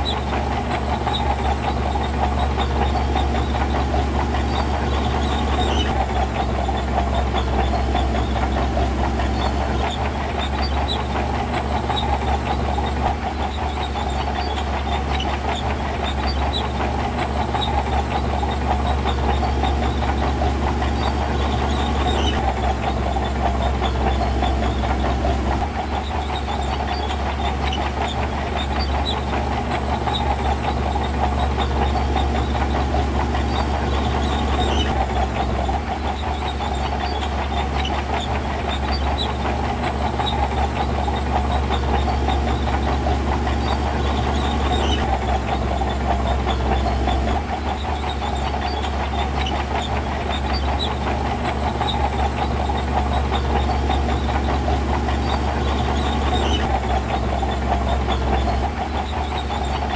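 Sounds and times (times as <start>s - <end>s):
continuous metallic rattle: 0.0s - 59.9s
diesel engine deep rumble: 0.0s - 59.9s.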